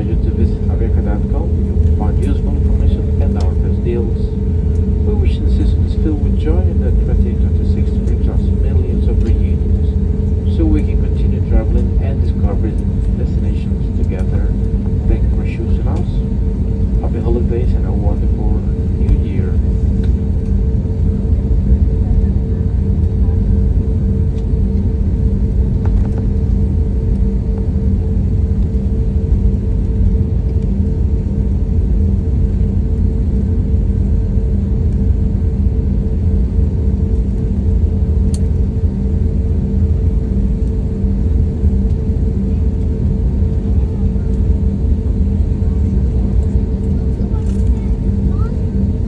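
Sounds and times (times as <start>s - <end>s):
constant hum: 0.0s - 49.0s
engine and air system rumble: 0.0s - 49.0s.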